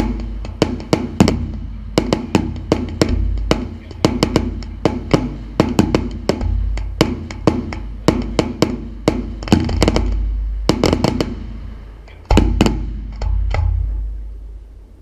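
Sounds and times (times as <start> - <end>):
fireworks cracking and banging: 0.0 - 13.9
music with drum beat and bass: 0.0 - 14.1.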